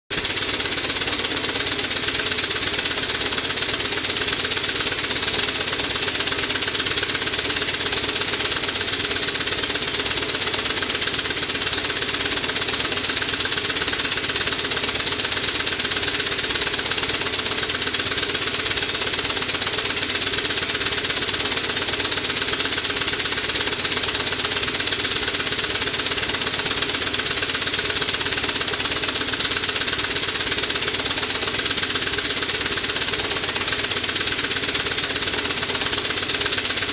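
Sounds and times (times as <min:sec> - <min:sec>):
steam engine exhaust beating: 0:00.1 - 0:36.9.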